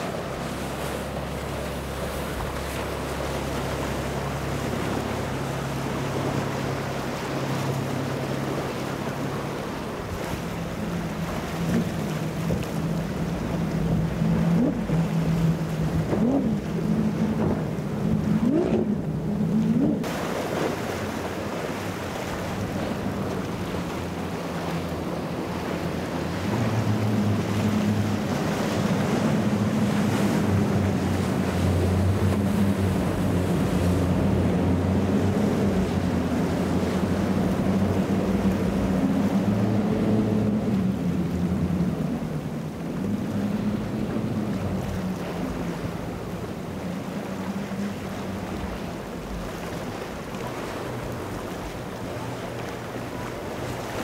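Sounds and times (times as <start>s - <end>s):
motorboat engine drone: 0.0s - 54.0s
waves: 0.0s - 54.0s.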